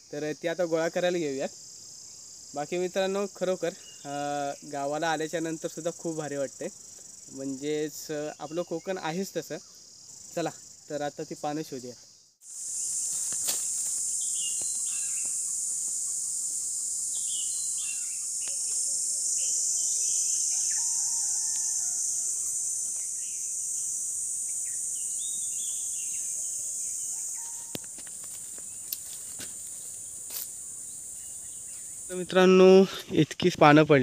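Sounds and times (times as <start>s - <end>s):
high-pitched insect drone: 0.0s - 33.9s.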